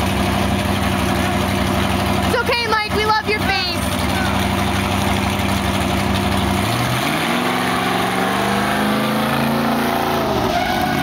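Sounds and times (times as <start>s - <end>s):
fire truck engine revving: 0.0s - 11.0s.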